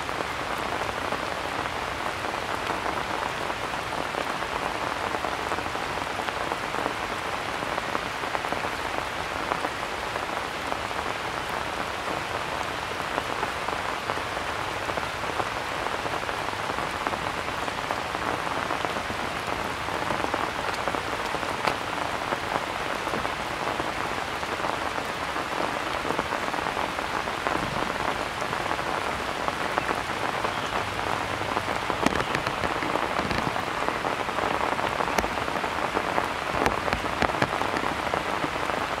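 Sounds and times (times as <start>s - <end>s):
individual raindrops ticking: 0.0s - 39.0s
steady rain on leaves and stones: 0.0s - 39.0s.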